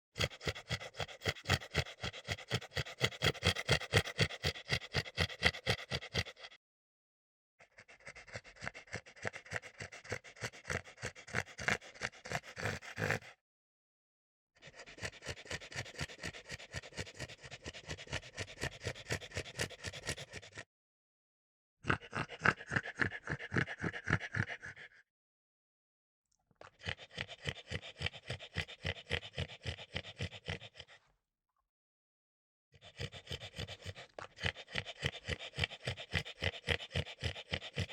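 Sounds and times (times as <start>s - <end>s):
dog panting: 0.2s - 6.6s, 7.6s - 13.3s, 14.6s - 20.6s, 21.9s - 25.0s, 26.7s - 31.0s, 32.8s - 37.9s.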